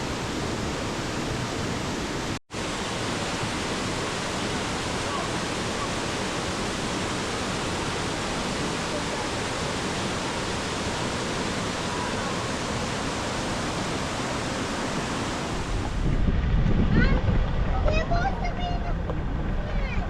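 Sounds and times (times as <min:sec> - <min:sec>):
waterfall rushing: 0:00.0 - 0:16.1.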